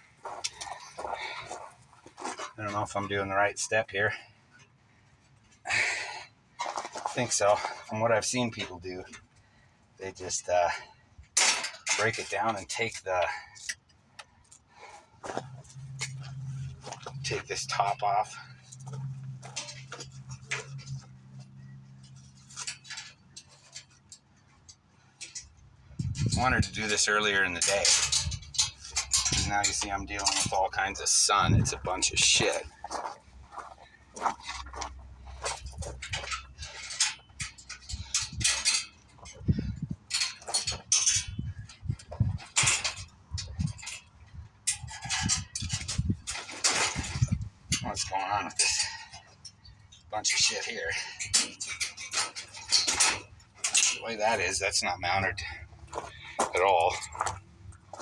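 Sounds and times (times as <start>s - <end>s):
metal parts clinking and knocking: 11.3s - 58.0s.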